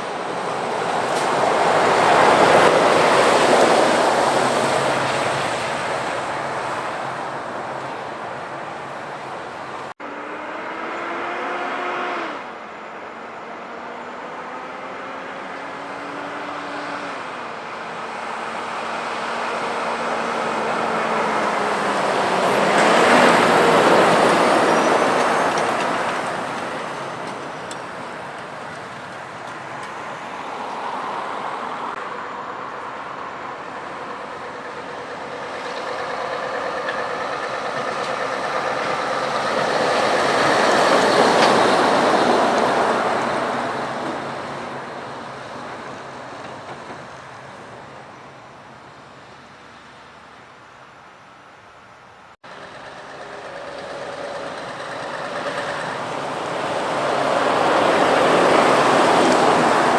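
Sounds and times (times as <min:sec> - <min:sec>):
heavy trucks driving past: 0:00.0 - 0:59.9.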